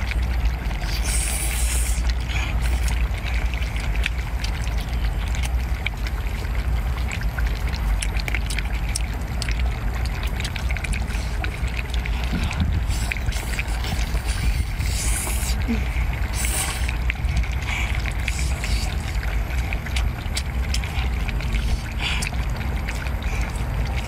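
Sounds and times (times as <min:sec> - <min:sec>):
chewing with wet clicks: 0:00.0 - 0:24.0
slurp: 0:00.0 - 0:24.0
steady low rumble: 0:00.0 - 0:24.0.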